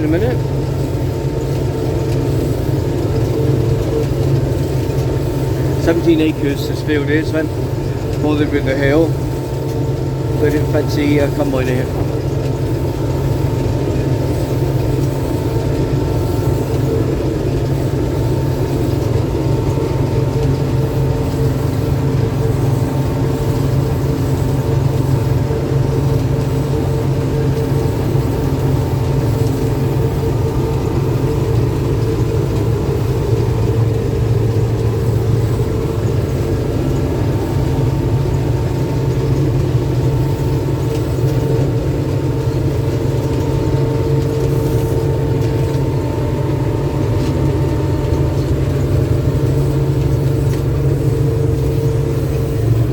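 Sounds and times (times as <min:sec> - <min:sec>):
combine harvester running: 0:00.0 - 0:52.9
machinery whine: 0:00.0 - 0:52.9.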